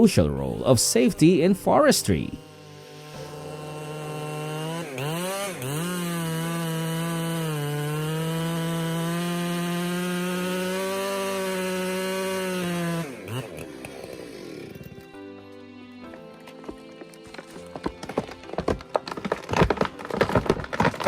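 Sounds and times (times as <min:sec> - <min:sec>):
chainsaw cutting tree trunk: 0:00.5 - 0:15.2, 0:16.6 - 0:21.0.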